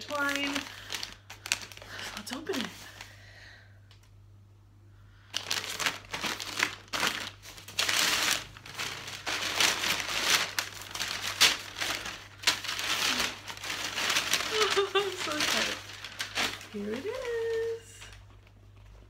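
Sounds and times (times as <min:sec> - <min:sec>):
paper crinkling and rustling: 0:00.0 - 0:03.1, 0:05.2 - 0:19.0.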